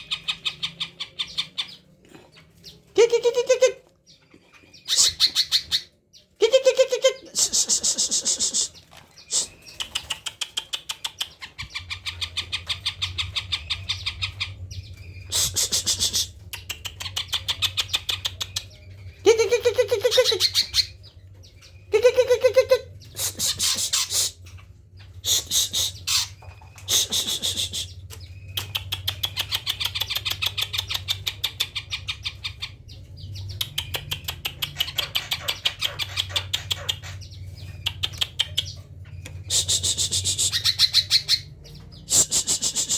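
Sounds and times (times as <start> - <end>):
bird singing chattering song: 0.0 - 42.9.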